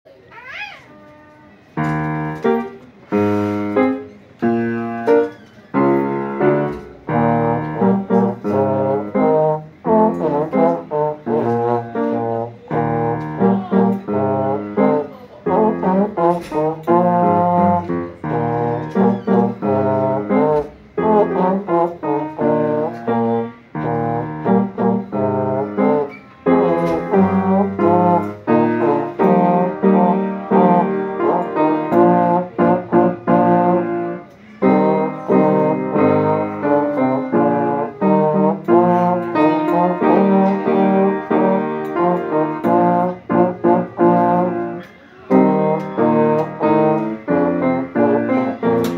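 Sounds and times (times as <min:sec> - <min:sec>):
piano accompaniment: 0:01.4 - 0:48.9
slide trombone melody: 0:01.8 - 0:05.2, 0:05.8 - 0:48.9.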